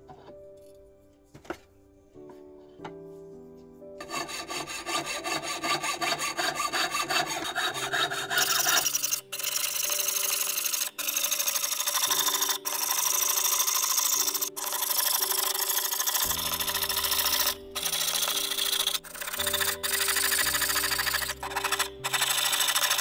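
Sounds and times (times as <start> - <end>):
saw rasping through metal: 4.0 - 23.0.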